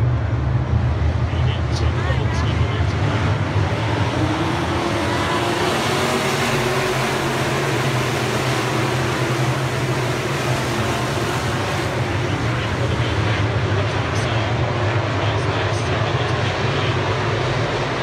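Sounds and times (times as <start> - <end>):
race car engines roaring: 0.0 - 18.0.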